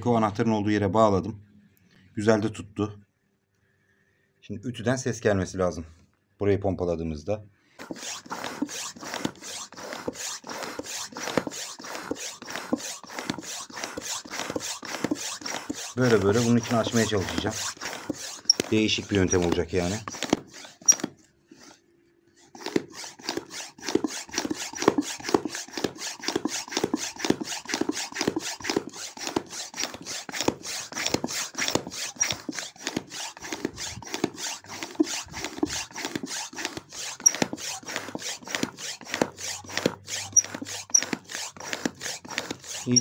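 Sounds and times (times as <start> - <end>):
bicycle pump strokes: 7.8 - 21.8, 22.4 - 43.0.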